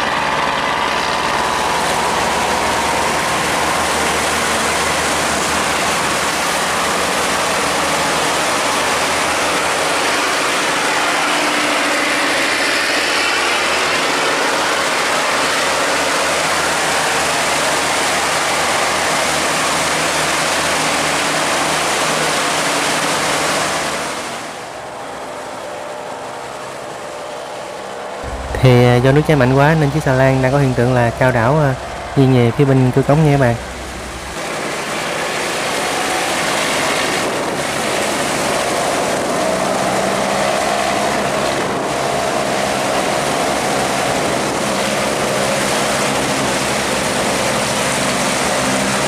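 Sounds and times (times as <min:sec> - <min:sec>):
boat engine running: 0:00.0 - 0:49.0
water rushing through sluice gate: 0:00.0 - 0:49.0.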